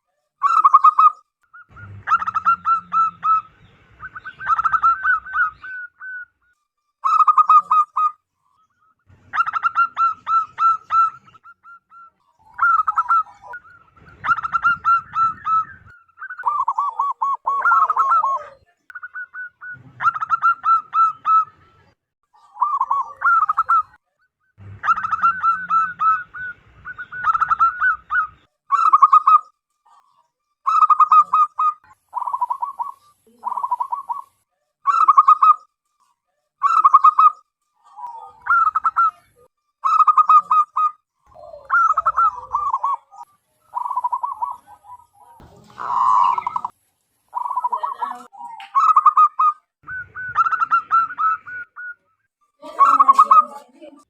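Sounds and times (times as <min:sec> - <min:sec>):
dove cooing: 0:00.4 - 0:08.2, 0:09.2 - 0:24.0, 0:24.6 - 0:30.0, 0:30.7 - 0:35.6, 0:36.6 - 0:53.8.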